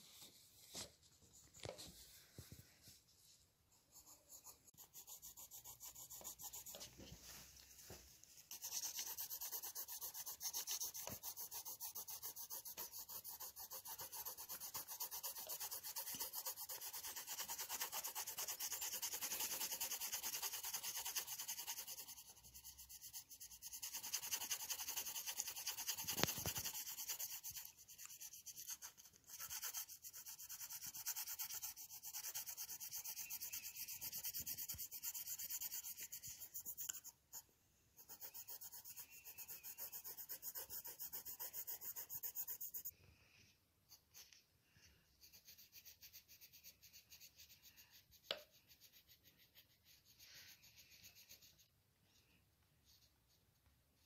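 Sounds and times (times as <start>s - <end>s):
pencil rubbing on paper: 3.7s - 7.4s, 8.4s - 37.4s, 38.0s - 42.9s, 43.9s - 51.7s.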